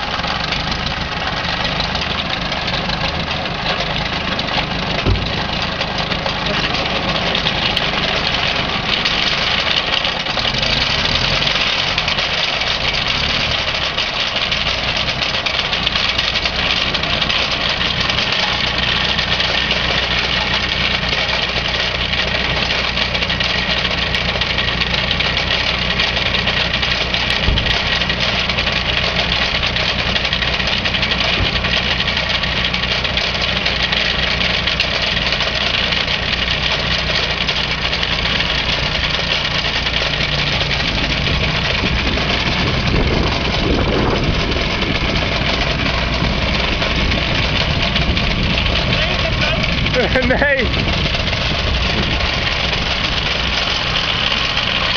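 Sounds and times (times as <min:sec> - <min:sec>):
high-pitched rattling whir: 0:00.0 - 0:54.9
tractor diesel engine running: 0:00.0 - 0:54.9.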